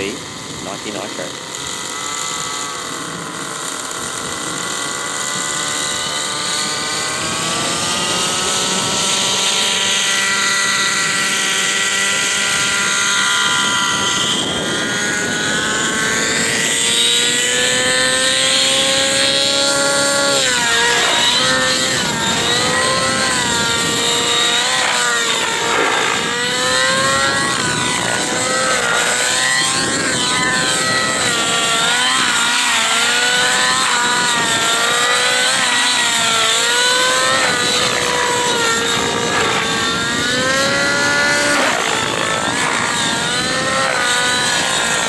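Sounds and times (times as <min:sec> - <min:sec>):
rc helicopter engine and rotor: 0:00.0 - 0:45.0.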